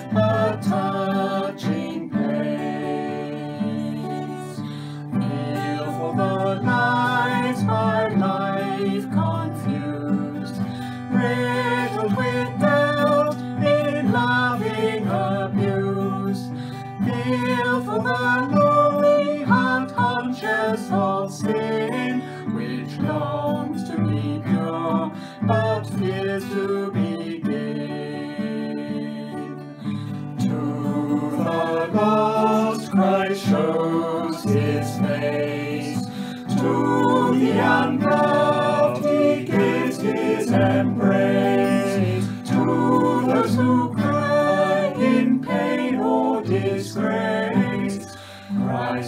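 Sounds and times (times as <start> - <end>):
guitar accompaniment: 0.0 - 49.0
man and woman singing a hymn: 0.0 - 49.0.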